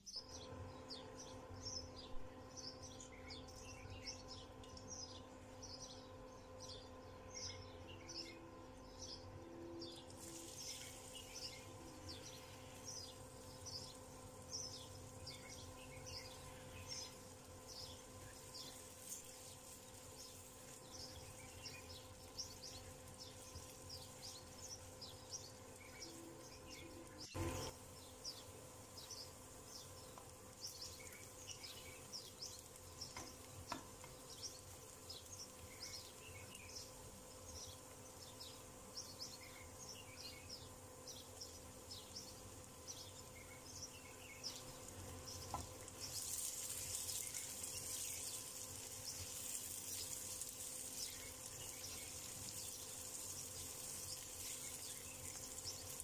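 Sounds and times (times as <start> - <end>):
small birds chirping: 0.0 - 56.0
steady low hum: 0.1 - 46.2
faint hiss: 9.8 - 56.0.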